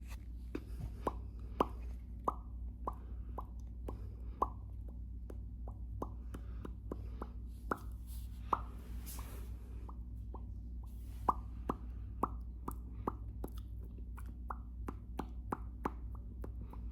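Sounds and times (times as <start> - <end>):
low hum: 0.0 - 16.9
person making mouth pops: 0.6 - 16.9.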